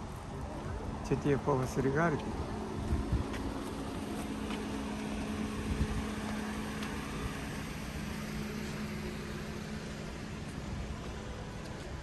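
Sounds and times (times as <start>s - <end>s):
street noise: 0.0s - 12.0s
mechanical hum droning: 0.2s - 12.0s.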